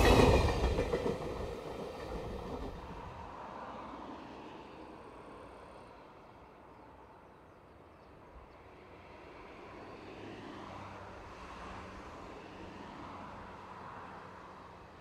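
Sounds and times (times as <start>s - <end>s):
freight train approaching: 0.0s - 7.4s, 8.5s - 15.0s.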